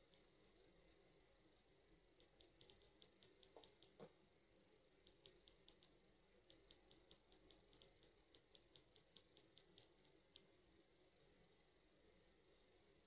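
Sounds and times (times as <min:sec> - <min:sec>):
faint high-pitched ticks: 0:00.0 - 0:12.8.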